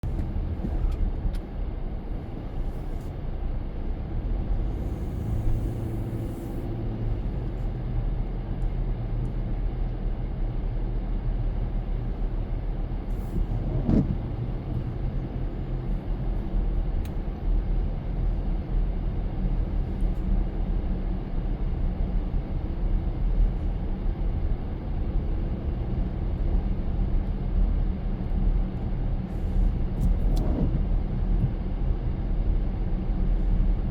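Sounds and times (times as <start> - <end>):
car engine and tyres on wet road: 0.0 - 33.9.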